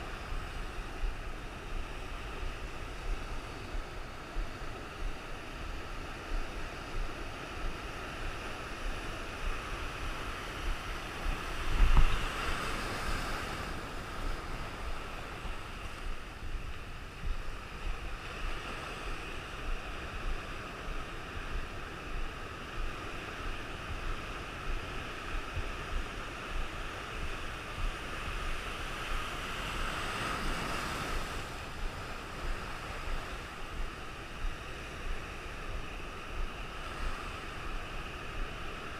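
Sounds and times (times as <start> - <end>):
waves breaking: 0.0 - 38.9
wind on microphone: 0.0 - 38.9.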